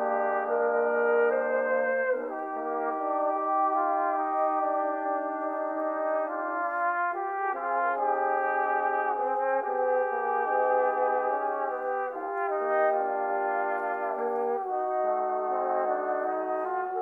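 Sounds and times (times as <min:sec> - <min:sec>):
brass quartet playing chords: 0:00.0 - 0:17.0.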